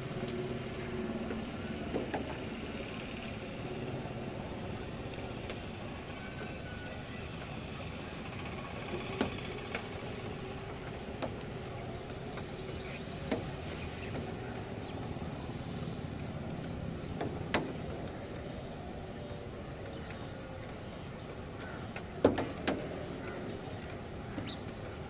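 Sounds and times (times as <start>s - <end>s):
distant traffic hum: 0.0s - 25.0s
rain and wind: 0.0s - 25.0s.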